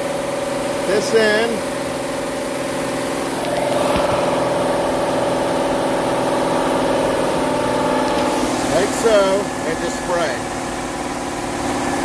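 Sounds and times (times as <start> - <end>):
car engine at raised idle: 0.0 - 12.0.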